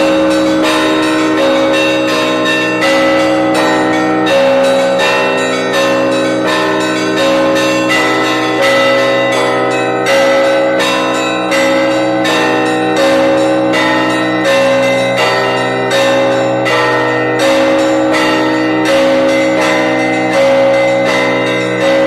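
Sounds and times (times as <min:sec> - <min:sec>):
high church bells ringing: 0:00.0 - 0:22.0
hum of large bells: 0:00.0 - 0:22.0.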